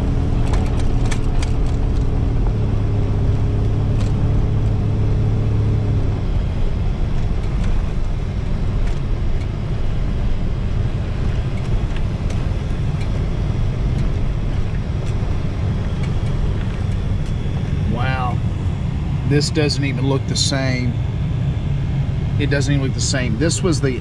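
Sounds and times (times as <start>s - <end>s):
vehicle engine low rumble: 0.0s - 24.0s.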